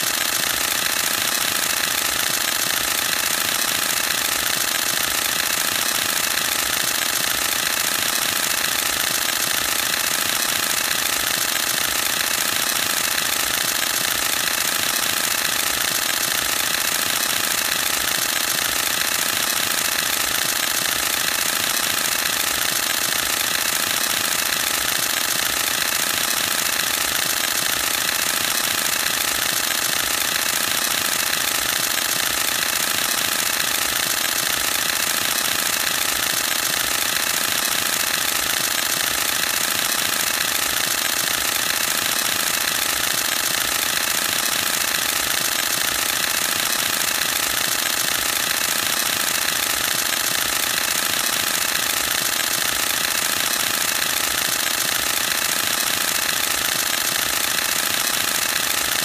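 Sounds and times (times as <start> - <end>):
camera shutter burst clatter: 0.0 - 59.0.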